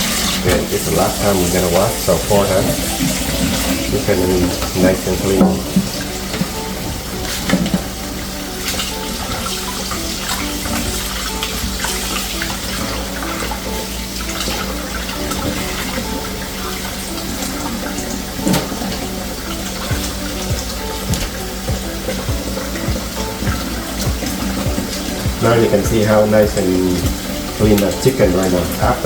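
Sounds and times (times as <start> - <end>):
tap running into sink: 0.0 - 17.6, 18.2 - 29.0
light background music: 0.0 - 29.0.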